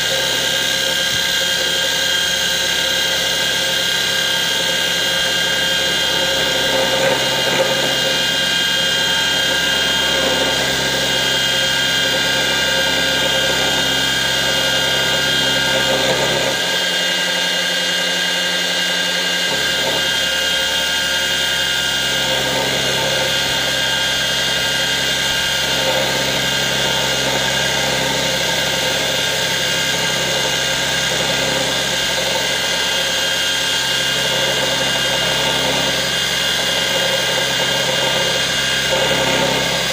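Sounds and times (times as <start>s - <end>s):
cut-off saw grinding steel: 0.0s - 39.9s.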